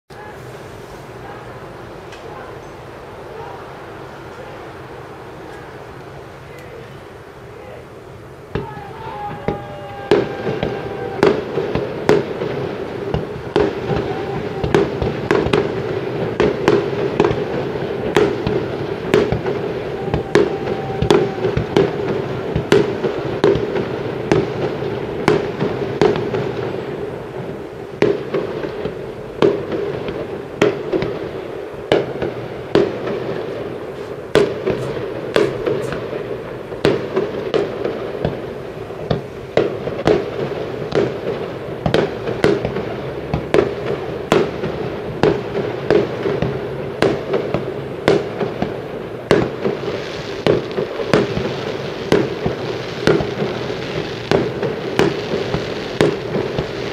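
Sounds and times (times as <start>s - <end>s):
thin whistling fireworks: 0.1s - 7.8s, 8.5s - 56.9s
firework shells bursting: 8.5s - 56.9s.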